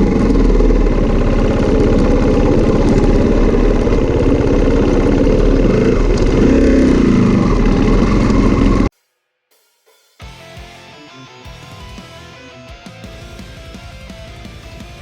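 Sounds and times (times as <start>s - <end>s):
off-road motorcycle engine running: 0.0s - 8.9s, 10.3s - 15.0s.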